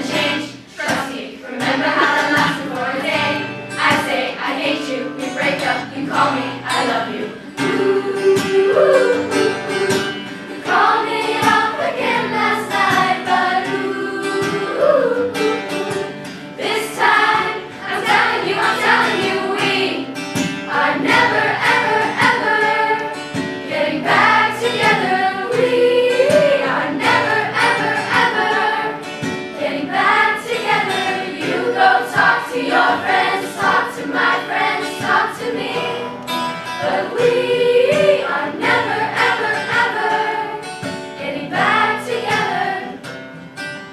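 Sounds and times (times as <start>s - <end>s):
choir singing: 0.0s - 43.0s.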